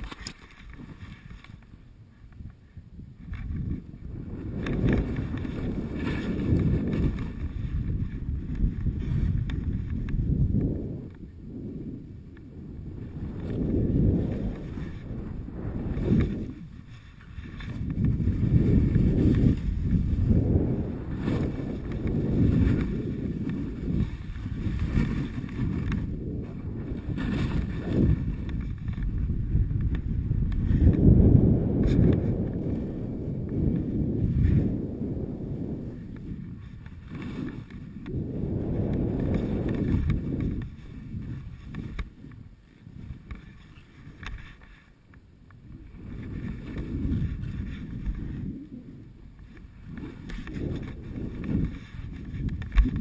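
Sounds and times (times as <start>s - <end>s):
skis scraping over snow: 0.0s - 53.0s
wind buffeting microphone: 0.0s - 53.0s.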